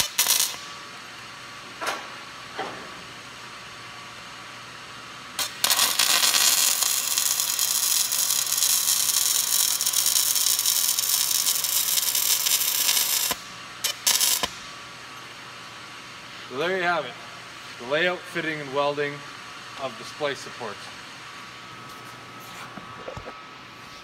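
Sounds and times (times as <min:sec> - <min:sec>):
welding arc crackling and sizzling: 0:00.0 - 0:21.6.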